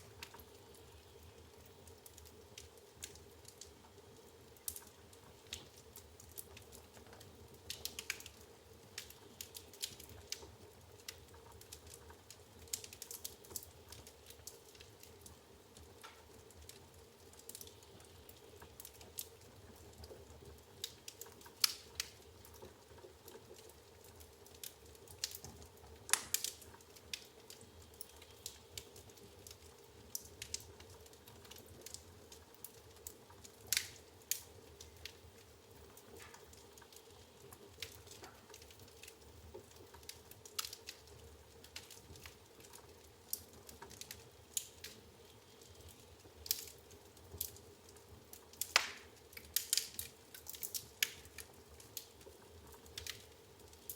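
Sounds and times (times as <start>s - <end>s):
firewood crackling and popping: 0.0s - 53.9s.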